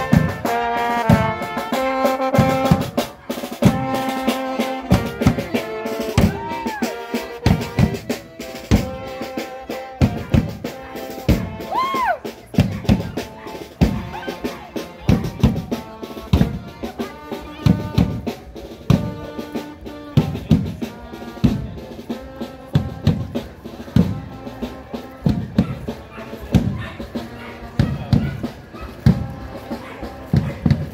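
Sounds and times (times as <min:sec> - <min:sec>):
bass and snare drums beating: 0:00.0 - 0:30.9
marching band playing: 0:00.0 - 0:30.9.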